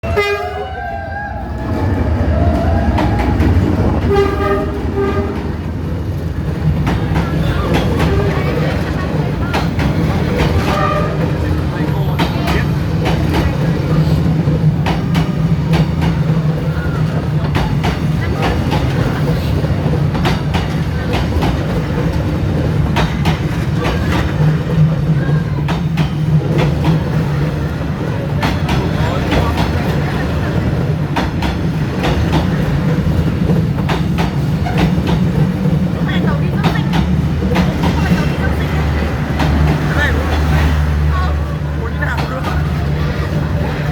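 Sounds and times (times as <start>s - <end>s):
train rumbling: 0.0s - 43.9s
wheels clattering on rails: 0.1s - 43.9s.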